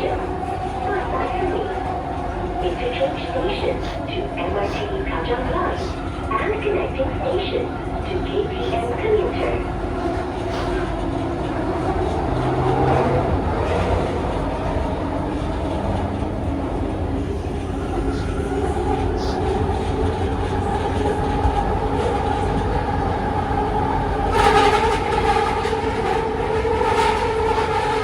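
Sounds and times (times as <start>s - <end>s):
metro train motor hum: 0.0s - 28.0s
wheel and track rumble: 0.0s - 28.0s.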